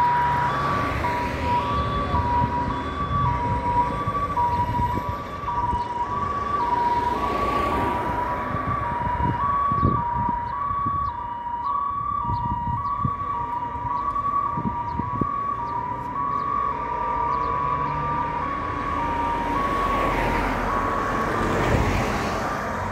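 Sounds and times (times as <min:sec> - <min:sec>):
fire engine two-tone siren: 0:00.0 - 0:22.9.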